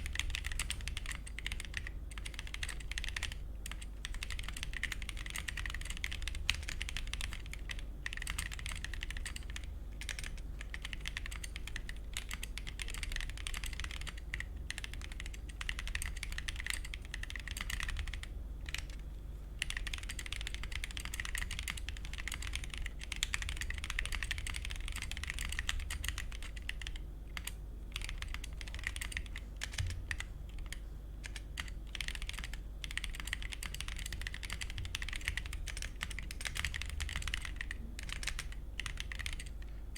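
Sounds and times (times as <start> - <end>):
mechanical keyboard typing: 0.0 - 19.0, 19.6 - 39.8.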